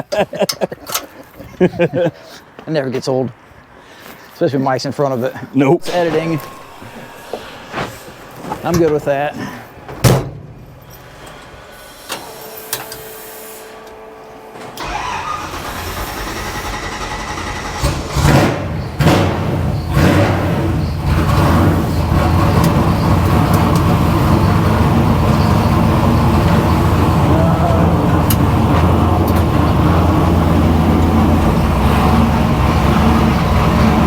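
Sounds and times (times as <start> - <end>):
truck engine cranking and starting: 5.8 - 34.0.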